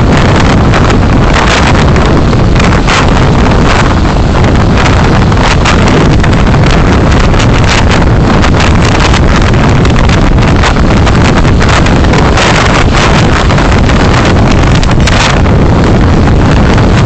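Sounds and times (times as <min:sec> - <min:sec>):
wind and road noise from car: 0:00.0 - 0:17.0.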